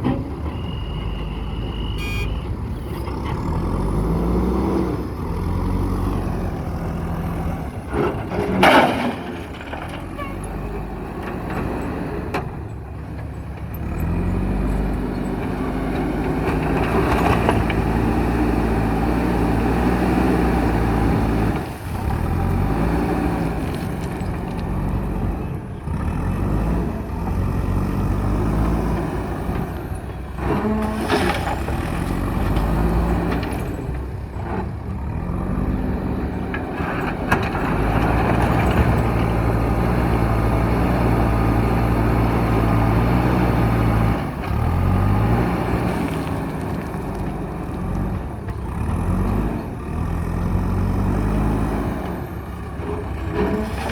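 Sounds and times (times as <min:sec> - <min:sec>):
diesel engine under load: 0:00.0 - 0:53.9.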